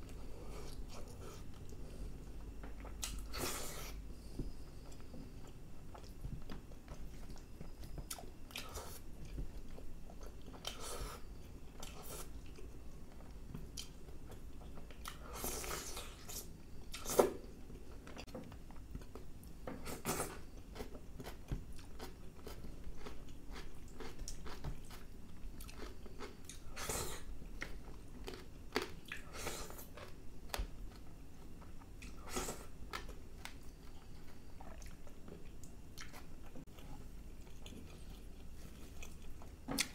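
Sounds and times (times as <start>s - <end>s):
man chewing food: 0.0s - 39.9s.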